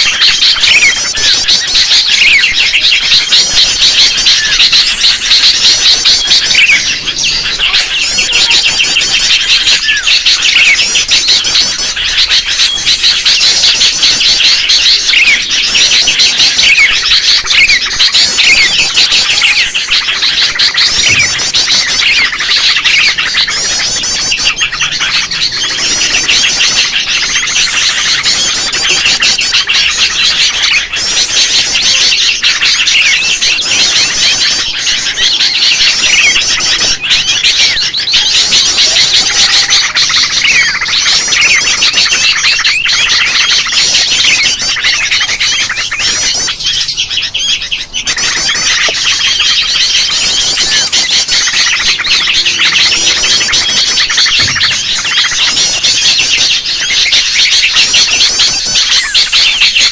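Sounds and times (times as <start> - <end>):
bulbuls calling and chattering: 0.0 - 59.9.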